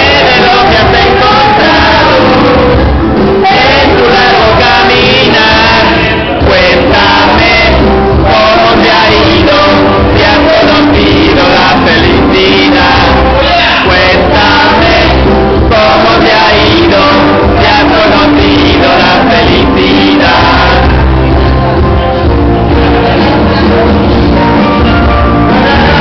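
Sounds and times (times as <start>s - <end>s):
women singing into microphones: 0.0s - 21.3s
backing music: 0.0s - 26.0s.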